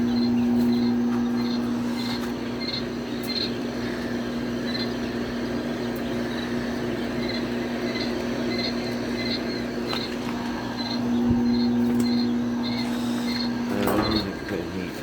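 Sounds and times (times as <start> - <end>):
chicks peeping: 0.0 - 15.0
machine hum: 0.0 - 15.0.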